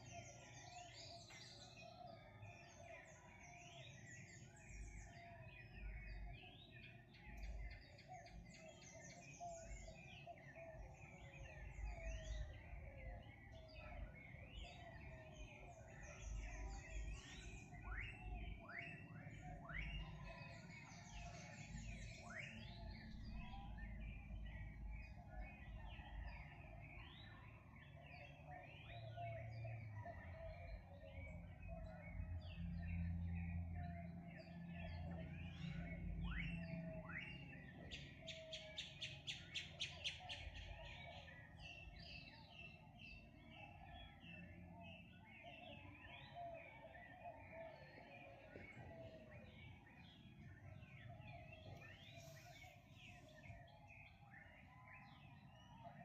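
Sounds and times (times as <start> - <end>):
birds chirping in chorus: 0.0 - 56.0.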